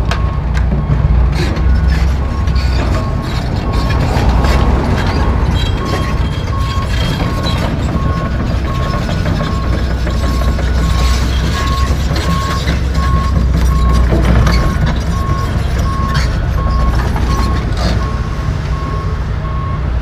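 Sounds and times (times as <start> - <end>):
excavator diesel rumble: 0.0 - 20.0
backup alarm beeping: 2.2 - 19.8.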